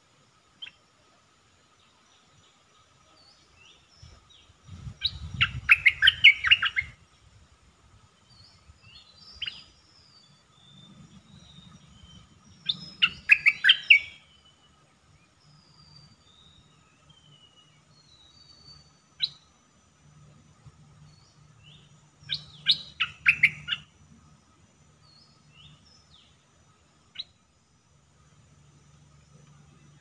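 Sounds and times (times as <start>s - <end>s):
bulbul singing: 3.2s - 7.1s, 8.1s - 20.0s, 20.8s - 30.0s.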